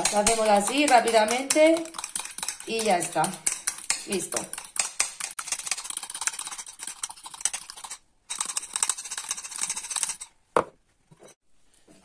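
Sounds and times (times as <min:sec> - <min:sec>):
fork beating eggs in bowl: 0:00.0 - 0:10.4.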